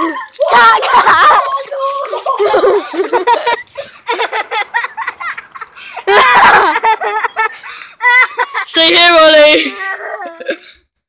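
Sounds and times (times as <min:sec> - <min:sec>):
children laughing and giggling: 0:00.0 - 0:10.9.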